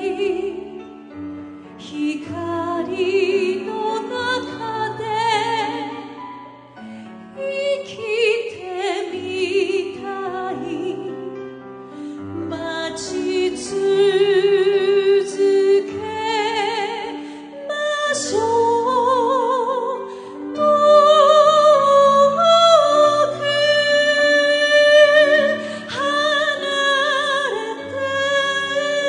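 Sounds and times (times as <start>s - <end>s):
woman singing with vibrato: 0.0s - 0.8s, 1.8s - 6.1s, 7.4s - 11.2s, 12.5s - 29.0s.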